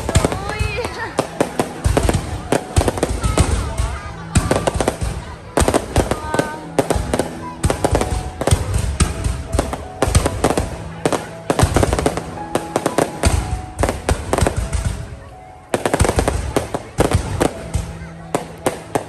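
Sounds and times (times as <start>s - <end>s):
fireworks cracking and banging: 0.0s - 19.0s
music: 0.0s - 19.0s.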